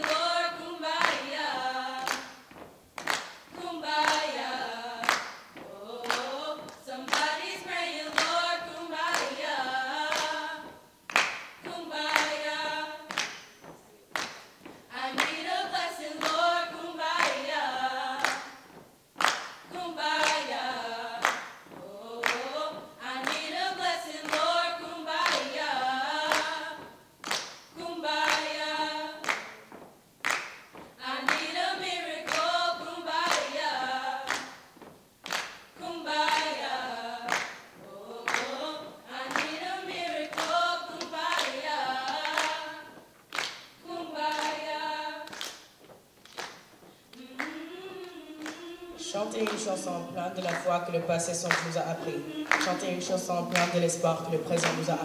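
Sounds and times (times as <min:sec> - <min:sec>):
hand claps: 0:00.0 - 0:00.3, 0:00.9 - 0:01.4, 0:02.0 - 0:17.6, 0:18.2 - 0:50.8, 0:51.4 - 0:55.0
choir singing unaccompanied: 0:00.0 - 0:02.5, 0:03.1 - 0:13.4, 0:14.8 - 0:29.6, 0:31.0 - 0:34.6, 0:35.8 - 0:43.1, 0:43.8 - 0:45.5, 0:47.2 - 0:55.0.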